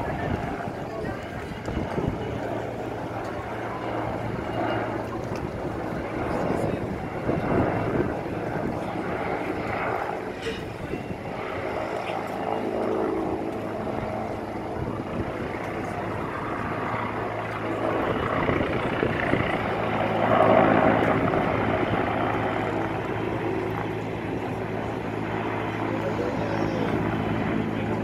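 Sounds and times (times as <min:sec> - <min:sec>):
helicopter rotor and turbine: 0:00.0 - 0:28.0.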